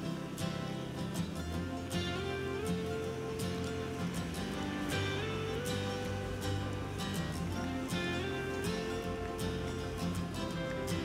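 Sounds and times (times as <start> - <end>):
gentle acoustic guitar music: 0.0 - 11.0.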